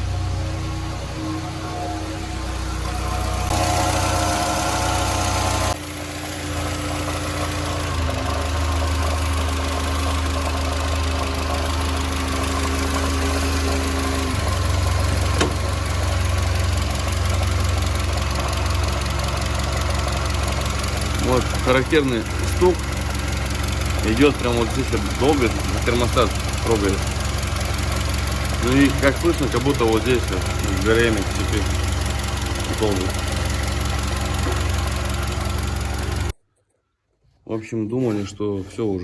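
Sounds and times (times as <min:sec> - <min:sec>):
car engine idling: 0:00.0 - 0:36.4
engine knocking: 0:03.2 - 0:36.3.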